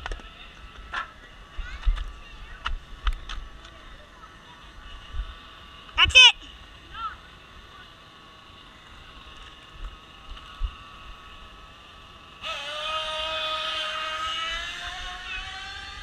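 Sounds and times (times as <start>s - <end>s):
small engine whining: 0.0s - 16.0s.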